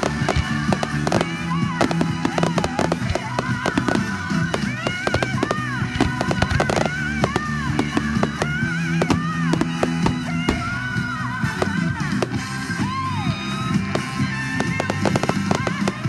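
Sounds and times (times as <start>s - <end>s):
fireworks bangs and crackles: 0.0s - 16.0s
loud music with singing: 0.6s - 16.0s.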